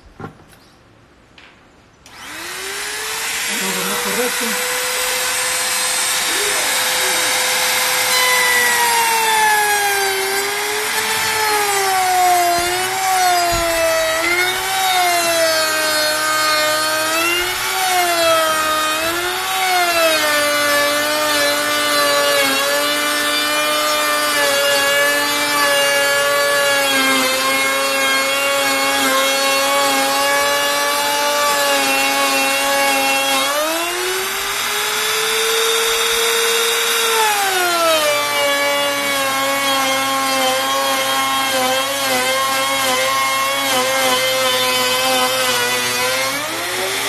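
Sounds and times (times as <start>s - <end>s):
electric router cutting wood: 2.1s - 47.0s.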